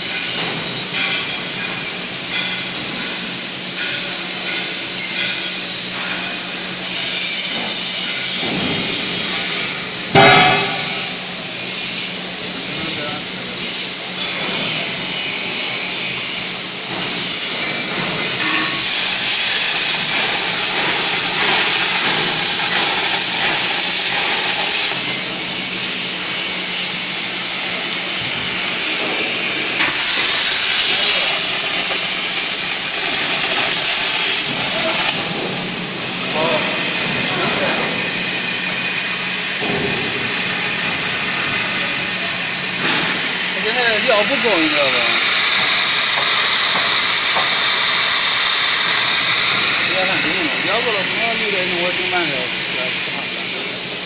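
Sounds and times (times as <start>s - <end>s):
plasma torch hissing: 0.0s - 54.0s.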